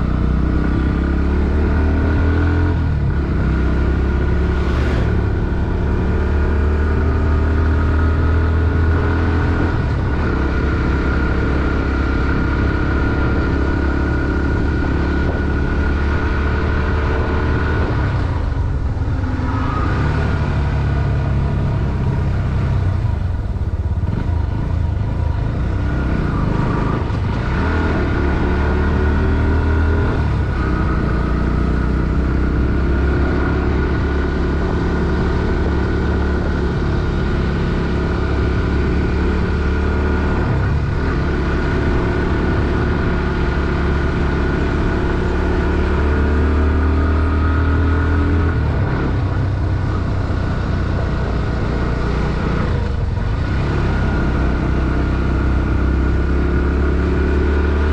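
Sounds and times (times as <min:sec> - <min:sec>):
motorcycle engine revving under load: 0:00.0 - 0:57.9.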